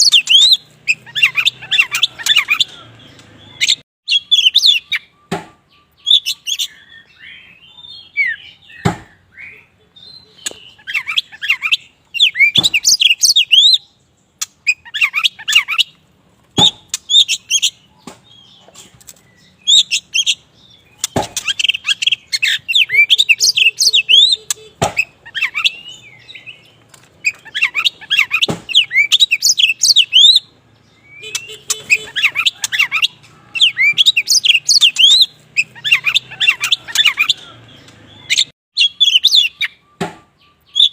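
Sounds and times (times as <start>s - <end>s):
bird singing whistled notes: 0.0s - 2.8s, 3.4s - 14.0s, 19.2s - 37.5s, 38.1s - 40.9s.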